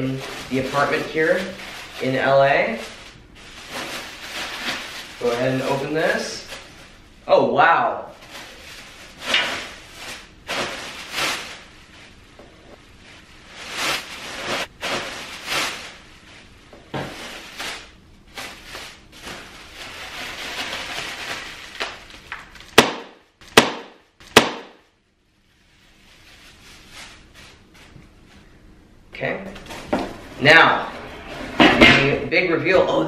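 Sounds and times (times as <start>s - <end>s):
plastic air pillows rustling: 0.0s - 28.7s.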